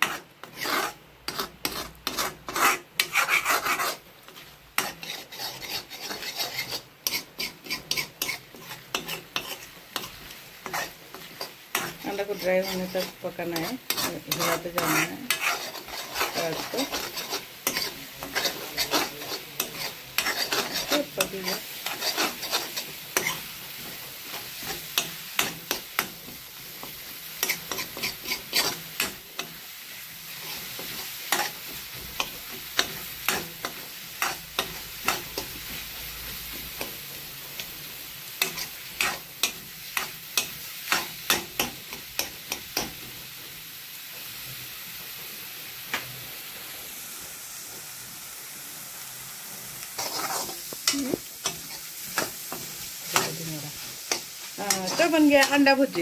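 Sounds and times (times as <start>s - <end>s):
metal spatula scraping a pan: 0.0s - 43.3s, 49.1s - 56.0s
eggs sizzling: 0.0s - 56.0s.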